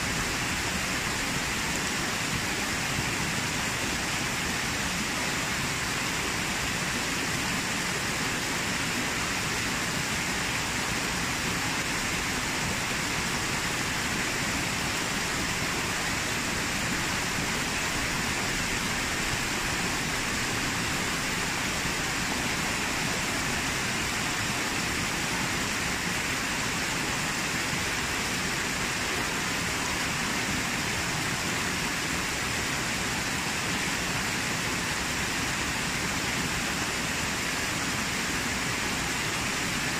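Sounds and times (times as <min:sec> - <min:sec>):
water cascading over rocks: 0:00.0 - 0:39.9.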